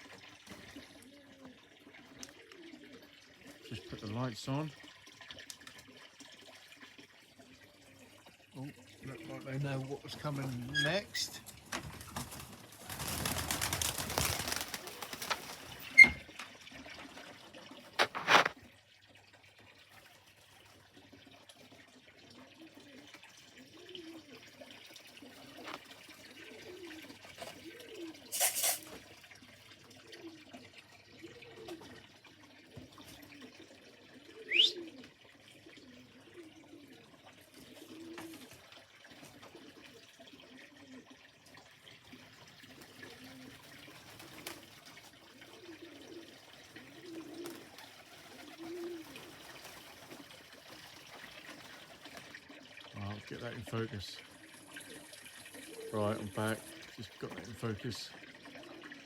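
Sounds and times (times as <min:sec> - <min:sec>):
pigeons cooing: 0:00.0 - 0:18.5, 0:19.2 - 0:59.0.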